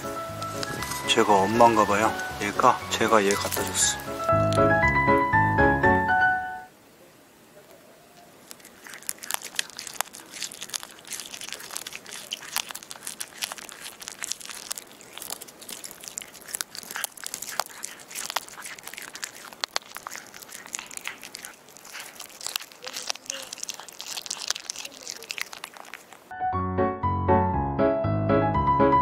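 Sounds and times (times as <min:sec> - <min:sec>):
kitten chewing raw fish: 0:00.0 - 0:05.5, 0:08.1 - 0:26.3.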